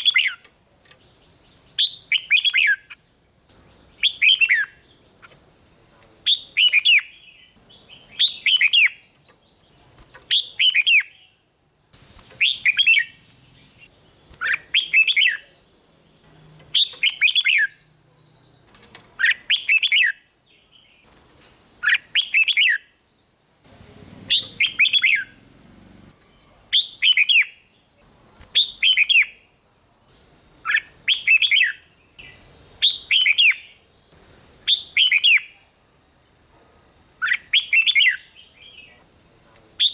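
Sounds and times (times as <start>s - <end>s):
bird singing warbling phrases: 0.0s - 21.1s, 21.8s - 22.9s, 23.7s - 29.4s, 30.4s - 33.8s, 34.6s - 35.8s, 37.2s - 39.1s.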